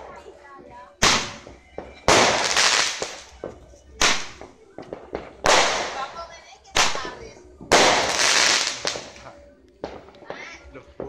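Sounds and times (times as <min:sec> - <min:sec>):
fireworks bangs: 0:01.0 - 0:11.0.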